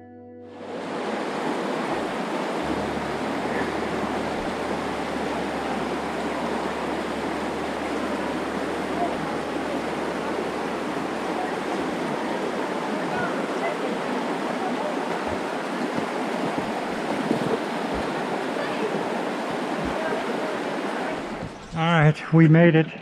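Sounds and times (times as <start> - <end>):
water rushing over rocks: 0.6 - 21.7.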